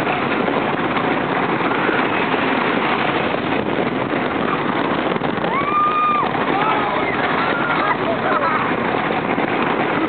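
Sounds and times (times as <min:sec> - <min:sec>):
roller coaster wheels rumbling: 0:00.0 - 0:10.0
wind rushing over microphone: 0:00.0 - 0:10.0.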